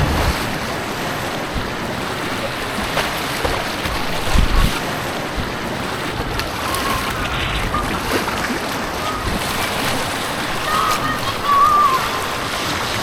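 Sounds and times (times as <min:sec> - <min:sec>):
white water rushing: 0:00.0 - 0:13.0.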